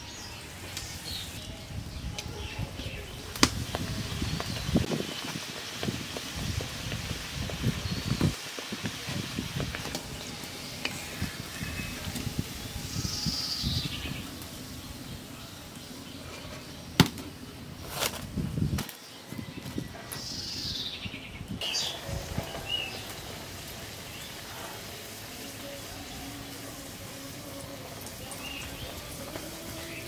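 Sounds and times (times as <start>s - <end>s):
birds chirping: 0.0s - 17.8s, 18.5s - 30.0s.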